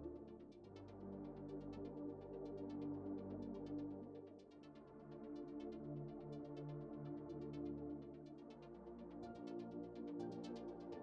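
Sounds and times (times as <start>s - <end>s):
quiet electronic music: 0.0s - 11.0s.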